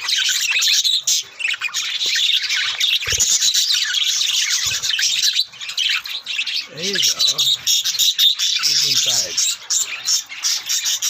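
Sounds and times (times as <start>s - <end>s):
cage birds chirping and squawking: 0.0s - 11.0s.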